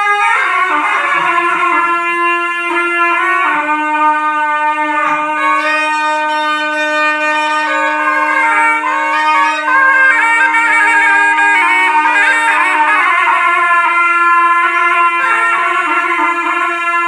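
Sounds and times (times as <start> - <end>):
shawm ornamented melody: 0.0 - 17.0.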